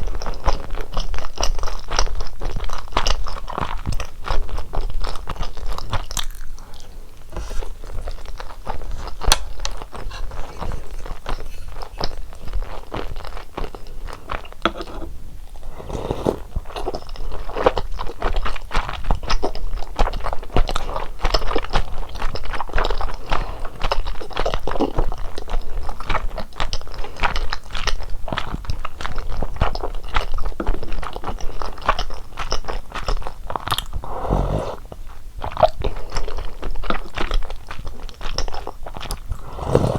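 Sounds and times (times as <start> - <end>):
close chewing and biting: 0.0 - 39.9.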